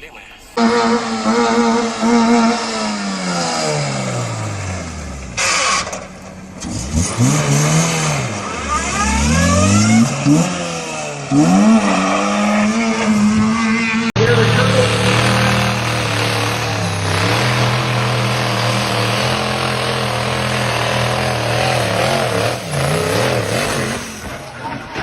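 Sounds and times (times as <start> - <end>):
car engine revving: 0.6 - 24.6.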